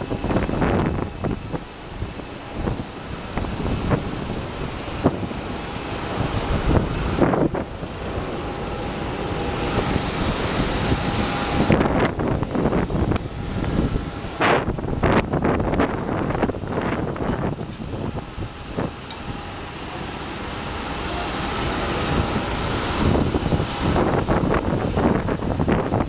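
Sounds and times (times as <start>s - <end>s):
airport apron rumble: 0.0s - 26.0s
faint steady whine: 0.0s - 26.0s
wind buffeting microphone: 0.0s - 26.0s.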